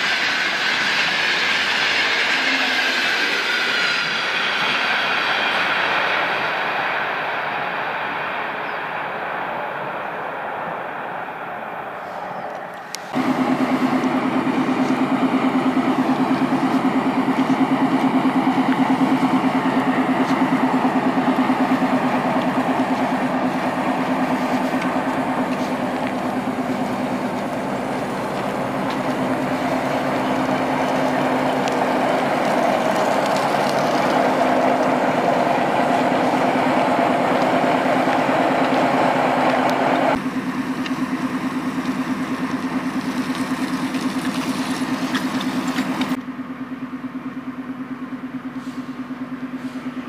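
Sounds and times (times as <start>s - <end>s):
diesel locomotive engine drone: 0.0s - 50.0s.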